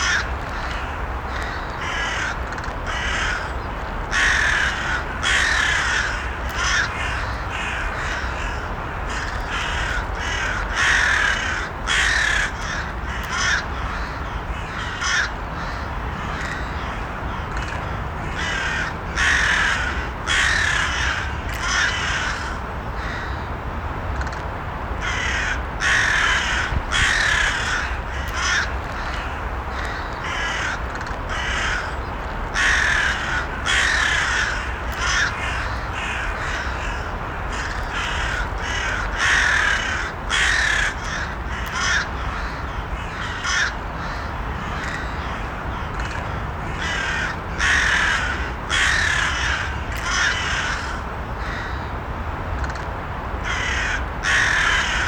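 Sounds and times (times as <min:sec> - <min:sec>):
crows cawing: 0:00.0 - 0:23.5, 0:25.0 - 0:51.9, 0:53.4 - 0:55.0.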